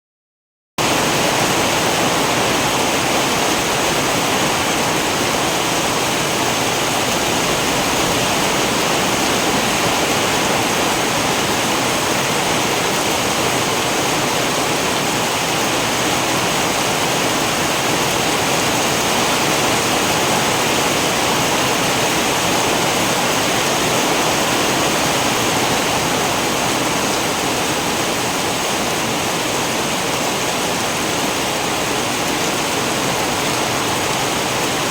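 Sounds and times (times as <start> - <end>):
heavy rain: 0.8 - 34.9.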